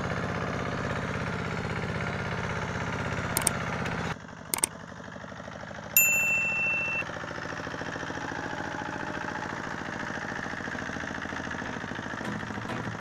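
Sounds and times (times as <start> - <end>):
single-cylinder diesel engine knocking: 0.0 - 13.0.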